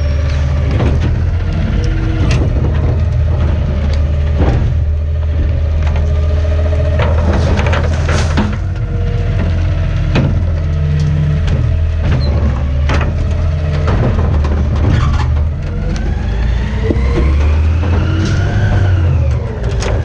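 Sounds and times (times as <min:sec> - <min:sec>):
garbage truck engine running: 0:00.0 - 0:20.0
rising whine: 0:00.0 - 0:20.0
sharp knocks and clunks: 0:00.0 - 0:20.0.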